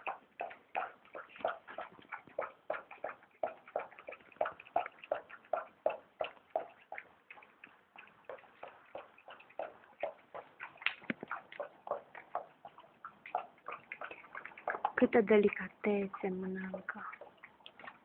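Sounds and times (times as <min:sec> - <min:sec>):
animals chewing from bowls: 0:00.0 - 0:18.0.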